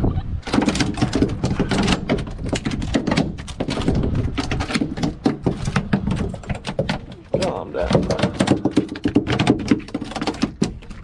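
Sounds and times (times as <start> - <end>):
fish flopping on a boat deck: 0.5 - 11.0.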